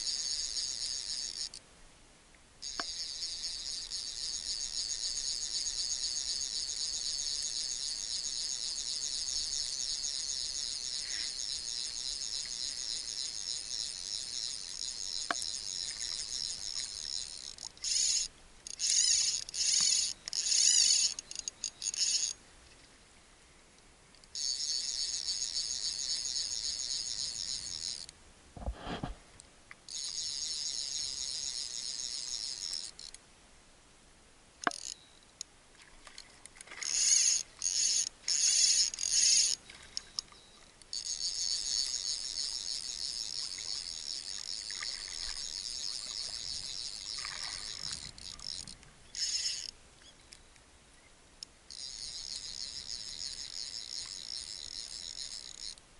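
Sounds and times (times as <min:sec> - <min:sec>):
fishing reel drag buzzing: 0:00.0 - 0:01.6, 0:02.6 - 0:22.4, 0:24.2 - 0:28.1, 0:29.9 - 0:33.2, 0:34.6 - 0:35.0, 0:36.6 - 0:50.2, 0:51.7 - 0:55.8.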